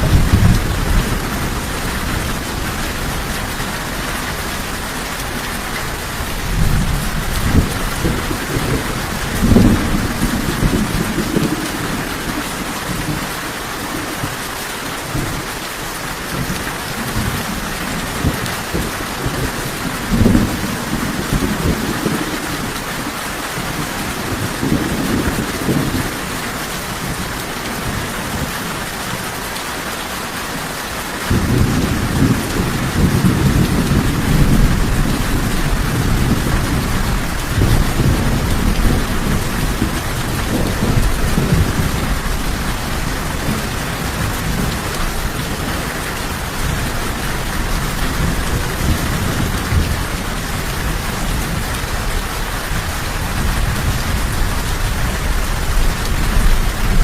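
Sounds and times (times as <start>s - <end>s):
thunder rumbling: 0.0s - 13.4s, 16.3s - 28.8s, 31.3s - 57.0s
rain hissing: 0.0s - 57.0s.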